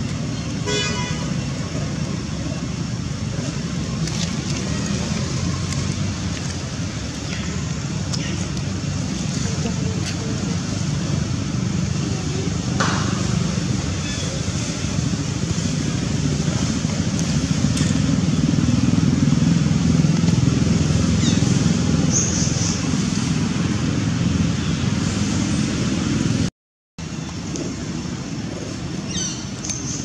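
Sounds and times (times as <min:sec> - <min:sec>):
low outdoor rumble: 0:00.0 - 0:30.0.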